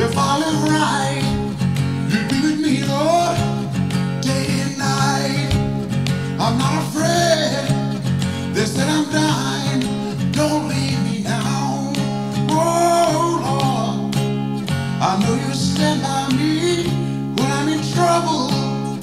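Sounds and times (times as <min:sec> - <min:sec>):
man singing: 0:00.0 - 0:14.3, 0:15.0 - 0:19.0
strummed acoustic guitar: 0:00.0 - 0:19.0.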